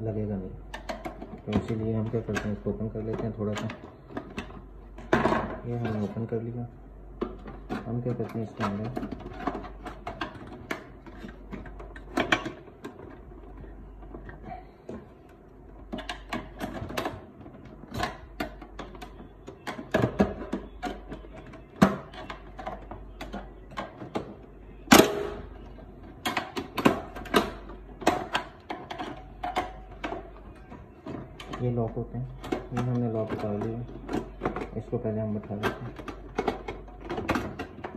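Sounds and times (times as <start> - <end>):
clicks and knocks on printer casing: 0.7 - 6.3, 7.2 - 37.9.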